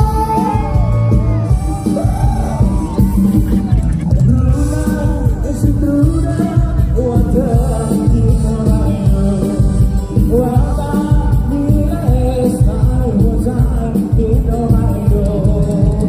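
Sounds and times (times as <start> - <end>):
heavy bass and drum beat: 0.0 - 16.0
person singing through loudspeakers: 0.0 - 16.0.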